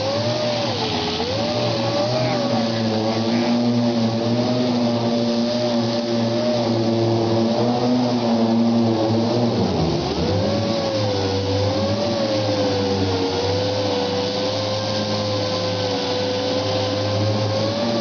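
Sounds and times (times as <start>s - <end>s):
air sander whining: 0.0s - 18.0s.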